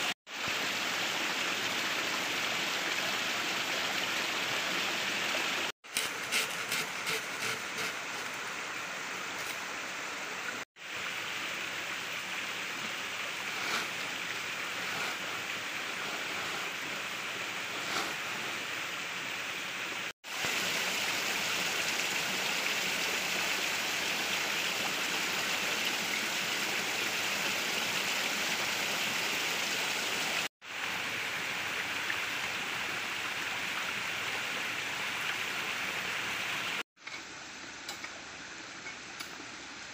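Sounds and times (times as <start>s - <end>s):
mountain stream rushing: 0.0s - 36.8s.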